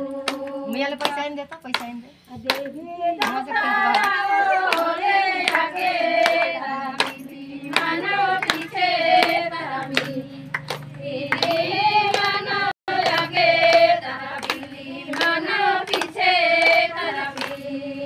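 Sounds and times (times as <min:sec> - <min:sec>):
women singing together: 0:00.0 - 0:18.0
hand clapping: 0:00.2 - 0:17.9.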